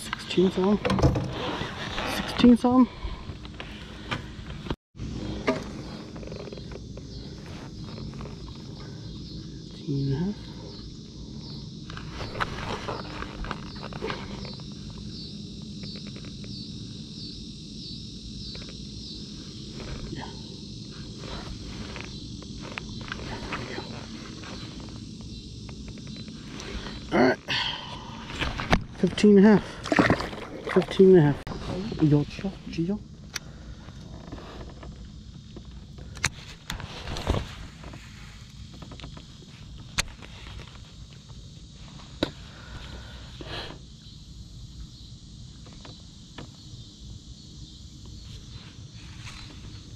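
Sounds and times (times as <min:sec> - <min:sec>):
insects calling in pulsing chorus: 0:00.0 - 0:49.9.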